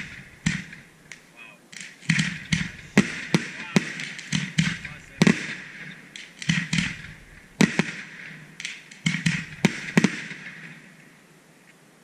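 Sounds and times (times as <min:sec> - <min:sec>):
firework shells bursting with hiss: 0:00.0 - 0:11.0.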